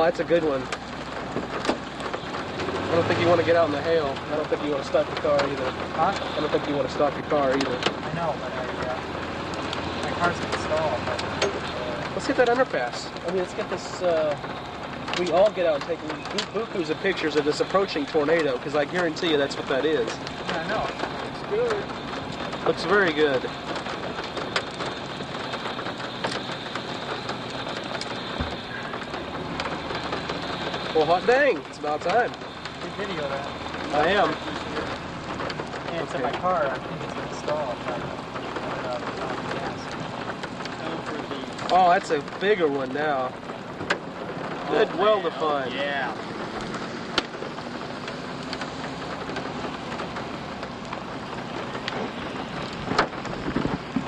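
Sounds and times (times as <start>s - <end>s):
drops and hail ticking on car: 0.0s - 54.0s
rain hissing on car: 0.0s - 54.0s.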